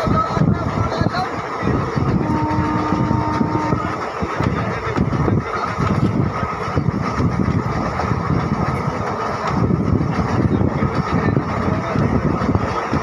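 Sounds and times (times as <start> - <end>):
rumble of wheels on rails: 0.0 - 13.0
rushing wind: 0.0 - 13.0.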